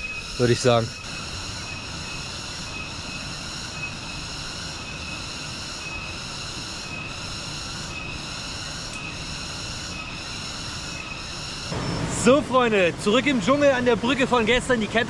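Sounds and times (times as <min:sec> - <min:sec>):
insect chorus drone: 0:00.0 - 0:14.2.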